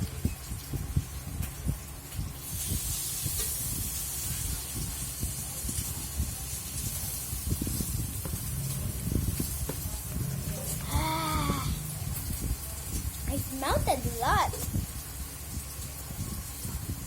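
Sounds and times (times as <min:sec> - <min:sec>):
food sizzling on a hot pan: 0:00.0 - 0:17.0.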